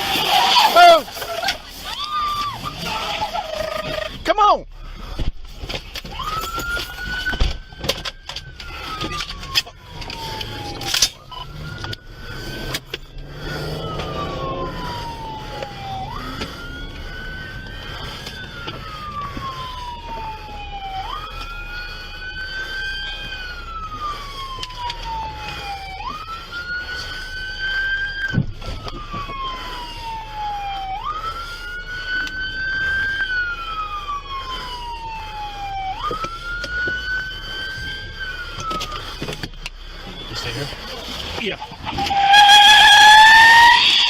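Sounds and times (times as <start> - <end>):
emergency siren wailing: 0.0 - 44.0
higher siren sweeping: 0.0 - 44.0.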